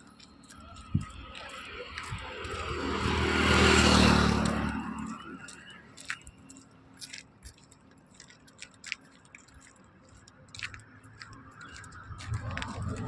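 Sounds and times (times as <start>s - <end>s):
vehicle rumble approaching: 0.0s - 13.0s.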